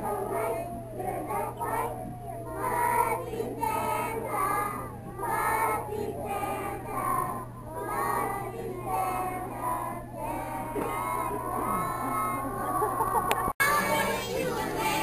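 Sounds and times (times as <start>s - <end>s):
adult voices: 0.0s - 15.0s
children singing together: 0.0s - 15.0s.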